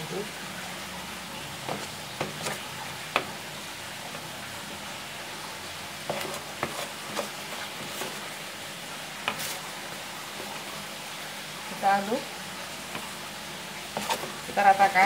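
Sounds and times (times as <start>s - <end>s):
spoon stirring thick batter: 1.3s - 15.0s.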